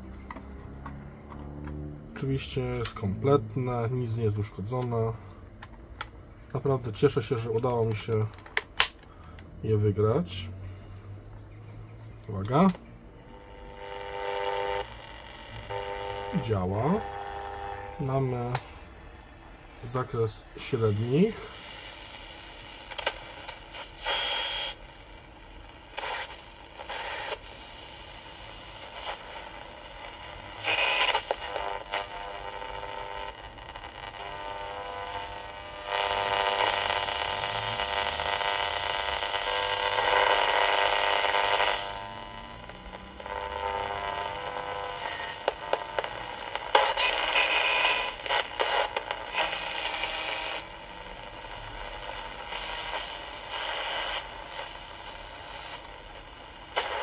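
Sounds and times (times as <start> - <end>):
radio static hiss and buzzing: 0.0 - 10.8, 11.4 - 57.0.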